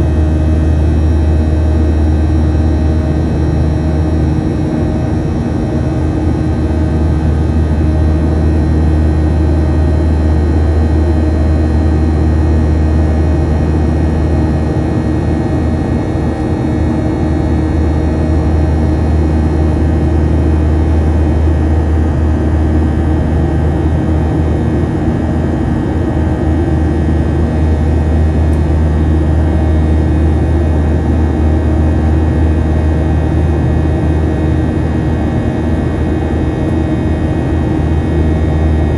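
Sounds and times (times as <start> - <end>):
jet engines droning in cabin: 0.0 - 38.9.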